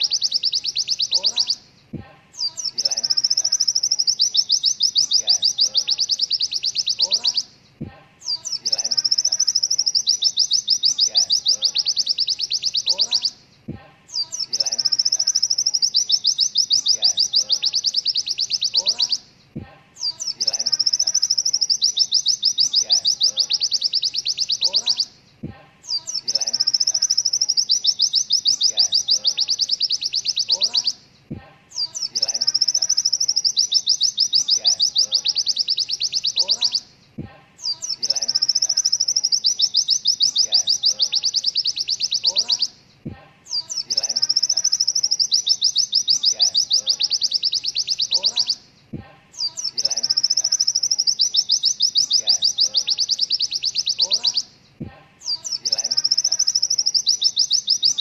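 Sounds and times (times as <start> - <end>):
bird rapid high trill: 0.0 - 1.6, 2.4 - 7.5, 8.2 - 13.4, 14.1 - 19.2, 20.0 - 25.1, 25.9 - 31.0, 31.7 - 36.9, 37.6 - 42.8, 43.5 - 48.6, 49.4 - 54.5, 55.2 - 58.0.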